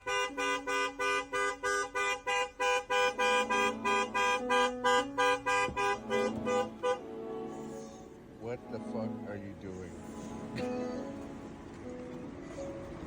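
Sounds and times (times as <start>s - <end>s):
rapid horn-like honks: 0.0s - 12.4s.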